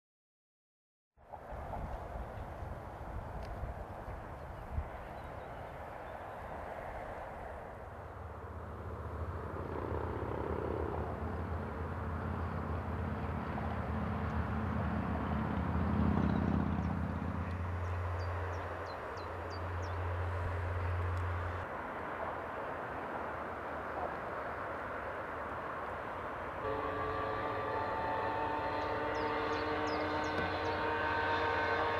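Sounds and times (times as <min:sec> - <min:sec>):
distant road traffic hiss: 0:01.2 - 0:31.9.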